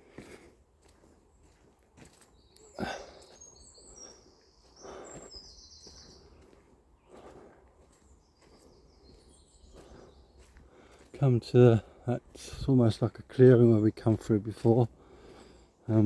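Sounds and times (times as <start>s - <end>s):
footsteps rustling on forest floor: 0.0s - 16.0s
small birds chirping: 0.0s - 16.0s.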